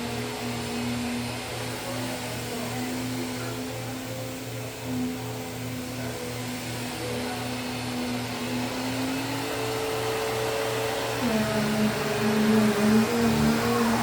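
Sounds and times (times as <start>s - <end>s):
vacuum cleaner motor hum: 0.0s - 14.0s.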